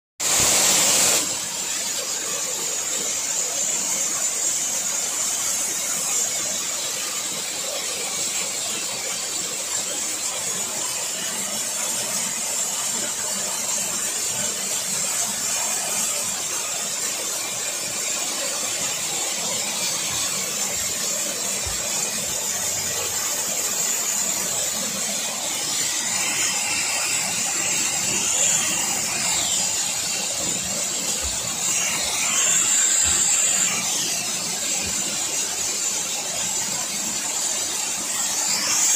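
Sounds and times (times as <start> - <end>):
waterfall splashing over rocks: 0.2 - 38.9.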